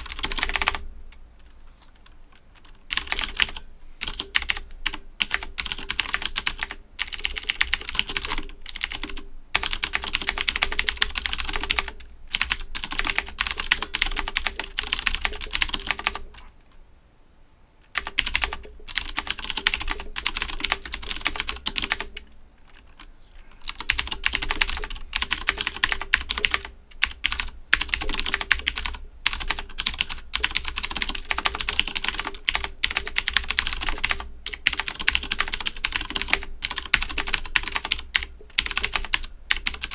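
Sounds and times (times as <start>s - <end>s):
mechanical keyboard typing: 0.0s - 0.8s, 1.4s - 16.5s, 17.9s - 39.9s.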